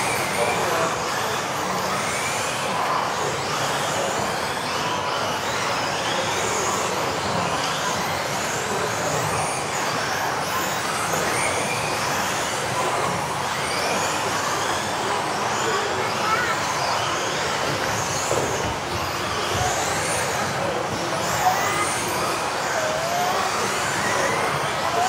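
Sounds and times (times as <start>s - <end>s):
rc car motors whining: 0.0s - 25.0s.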